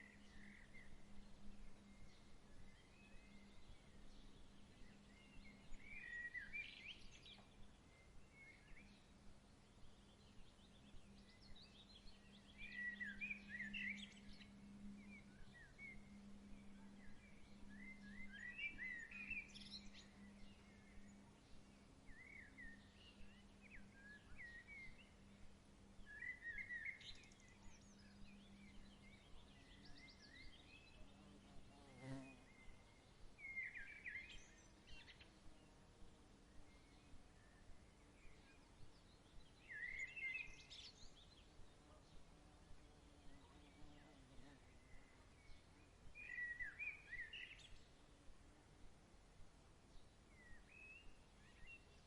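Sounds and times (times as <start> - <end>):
bird chirping: 0.0 - 35.8, 36.5 - 48.0, 49.9 - 52.0
low steady hum: 0.0 - 52.0.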